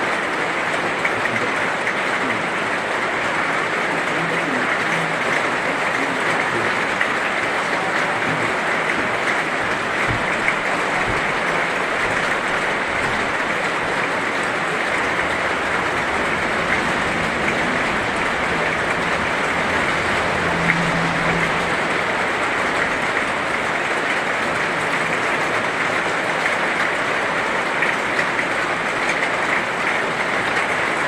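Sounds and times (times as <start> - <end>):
heavy rain hissing: 0.0 - 31.0
raindrop ticks: 1.0 - 31.0.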